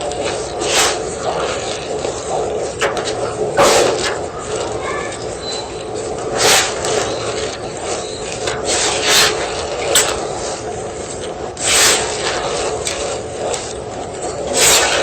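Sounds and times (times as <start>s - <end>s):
chalk being crushed and crumbled: 0.0s - 15.0s.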